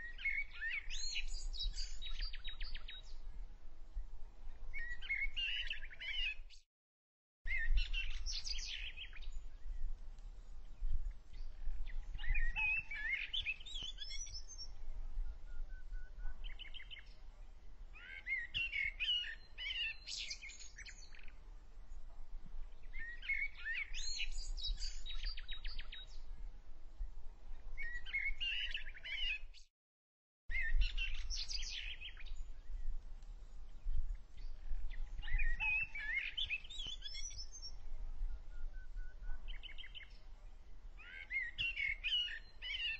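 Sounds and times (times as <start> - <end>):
small birds chirping: 0.0 - 3.2, 7.5 - 26.4, 27.8 - 29.7, 30.5 - 42.9.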